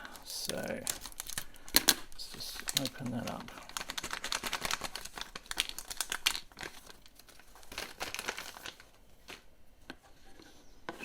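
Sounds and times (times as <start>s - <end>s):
packaging crinkling and tearing: 0.2s - 9.5s.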